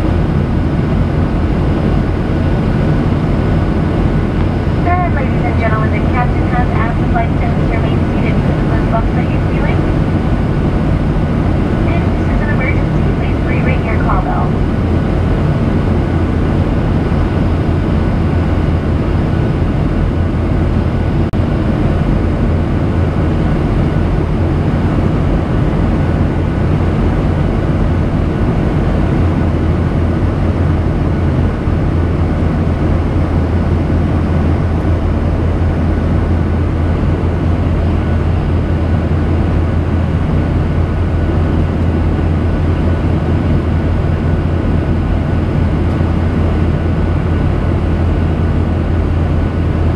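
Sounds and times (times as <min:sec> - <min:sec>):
jet engine drone in cabin: 0:00.0 - 0:49.9.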